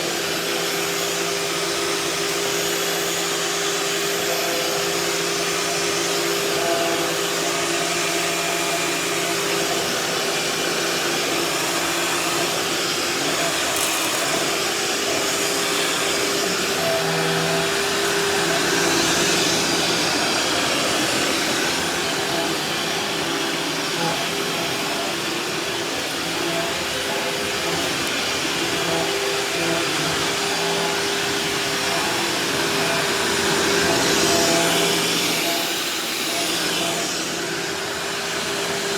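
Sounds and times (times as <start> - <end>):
shop vacuum running: 0.0 - 38.9.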